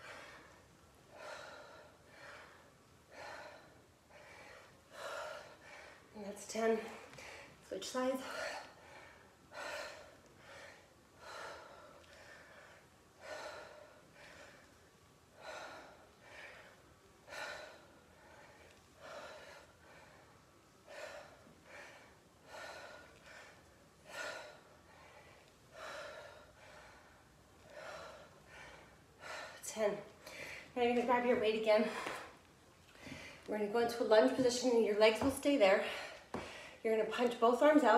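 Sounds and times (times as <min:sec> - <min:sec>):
woman breathing hard: 0:00.0 - 0:30.8, 0:31.8 - 0:33.5, 0:35.8 - 0:36.8.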